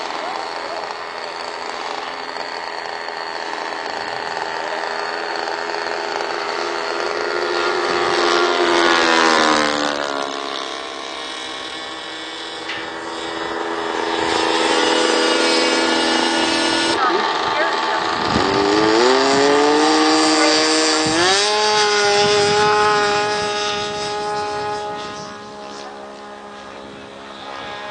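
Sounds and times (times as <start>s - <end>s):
model airplane engine passing: 0.0s - 27.9s.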